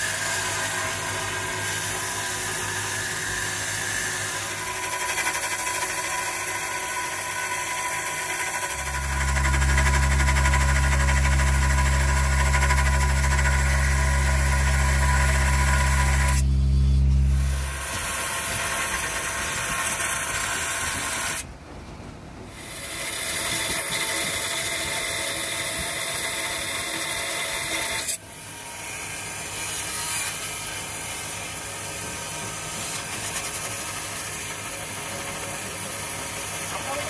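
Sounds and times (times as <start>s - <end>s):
power grinder grinding metal: 0.0s - 21.4s, 22.6s - 37.0s.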